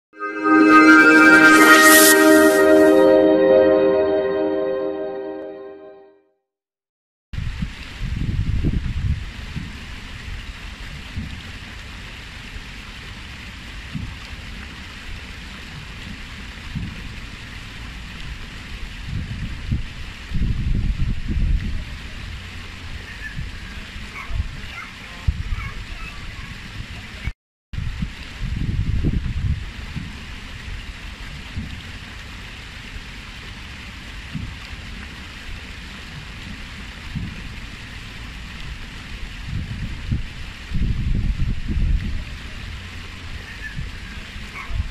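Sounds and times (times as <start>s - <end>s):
water cascading into pool: 7.4s - 44.9s.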